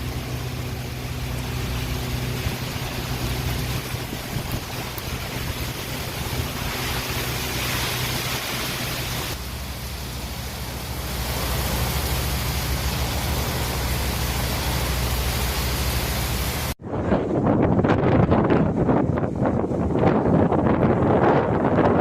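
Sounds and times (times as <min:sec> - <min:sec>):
low rumble: 0:00.0 - 0:22.0
storm rushing noise: 0:00.0 - 0:22.0.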